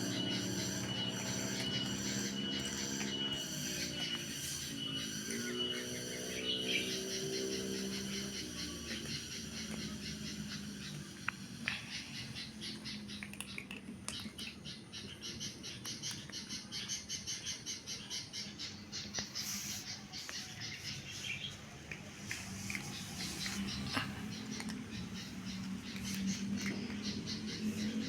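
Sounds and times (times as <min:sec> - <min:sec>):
small bird chirping: 0:00.0 - 0:28.0.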